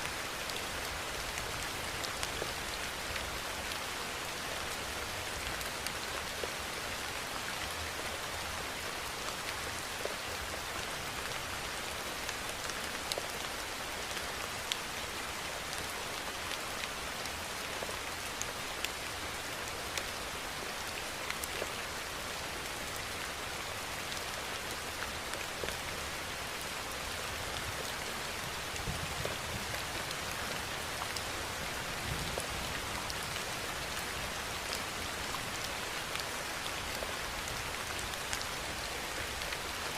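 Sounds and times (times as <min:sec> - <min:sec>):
raindrops ticking on a surface: 0:00.0 - 0:39.9
steady rainfall: 0:00.0 - 0:39.9.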